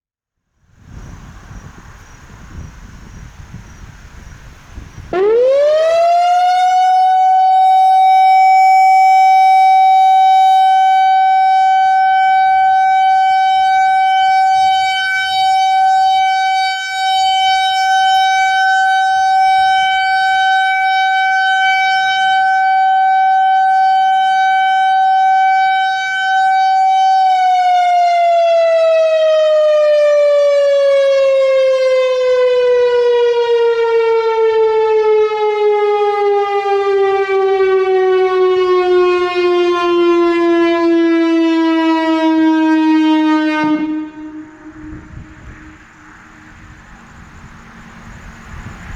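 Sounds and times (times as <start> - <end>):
warning siren steady tone: 4.8 - 48.9.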